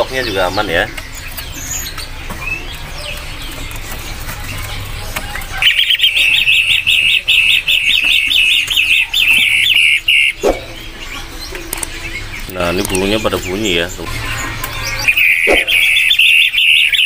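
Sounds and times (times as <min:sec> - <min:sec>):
bird singing rapid sharp notes: 0:00.0 - 0:17.0
faint bird chirps: 0:00.0 - 0:17.0.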